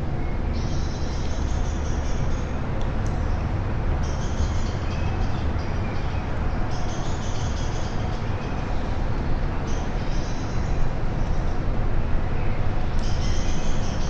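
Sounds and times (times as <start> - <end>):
birds singing: 0.1 - 14.0.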